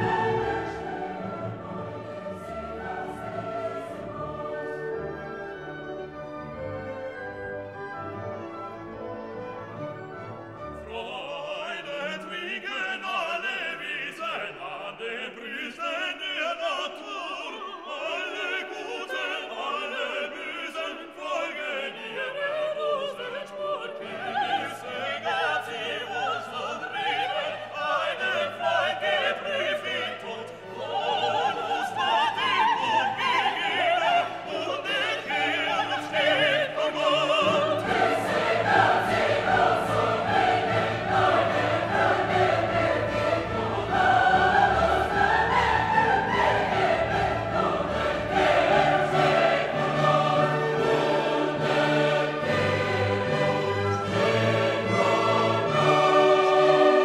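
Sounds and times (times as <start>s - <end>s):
operatic singing with orchestra: 0.0s - 57.0s.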